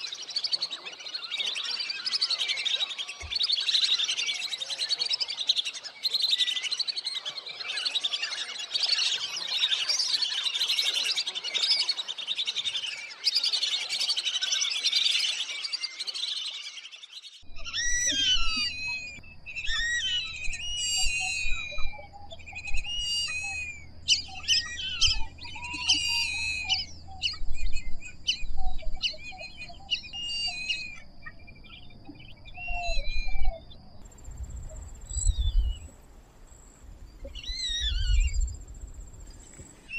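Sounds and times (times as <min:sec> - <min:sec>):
ducks whistling: 0:00.0 - 0:33.6, 0:34.5 - 0:39.9.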